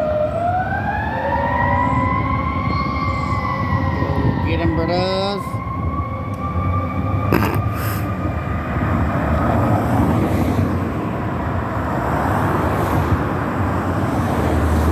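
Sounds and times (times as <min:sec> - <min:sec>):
fire engine engine rumble: 0:00.0 - 0:14.9.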